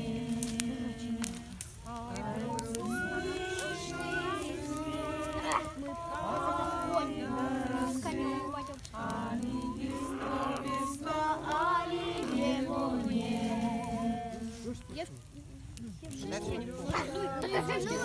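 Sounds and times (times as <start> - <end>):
group singing unaccompanied: 0.0 - 15.0, 16.1 - 18.0.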